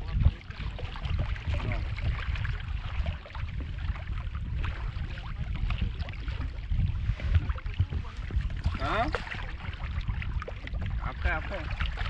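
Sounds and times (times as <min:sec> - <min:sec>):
water lapping against kayak hull: 0:00.0 - 0:12.0
wind buffeting microphone: 0:00.0 - 0:12.0.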